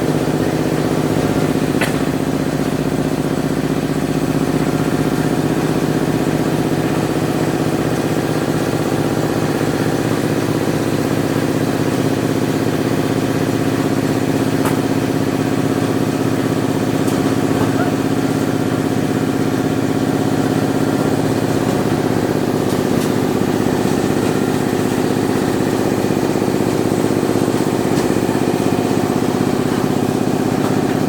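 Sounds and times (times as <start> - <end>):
grinding mill running: 0.0 - 31.0.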